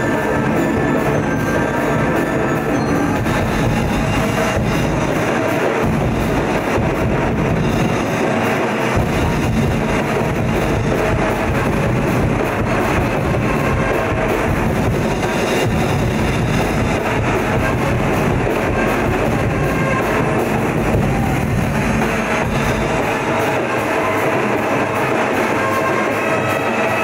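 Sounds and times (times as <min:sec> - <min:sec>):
loud dance music over loudspeakers: 0:03.2 - 0:26.7.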